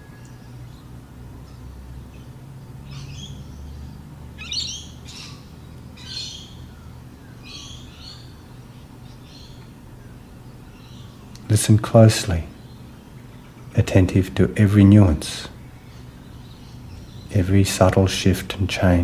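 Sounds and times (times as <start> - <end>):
bird chirping: 0.0 - 18.4
steady low hum: 0.0 - 19.0.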